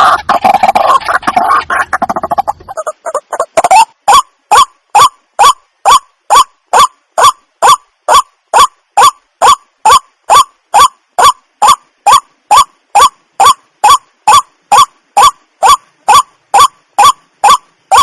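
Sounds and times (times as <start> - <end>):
water hen calling: 0.0 - 18.0.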